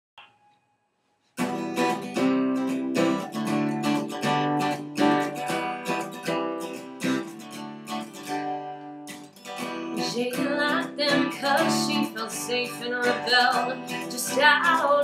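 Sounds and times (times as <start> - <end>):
acoustic guitar strumming: 1.4 - 15.0.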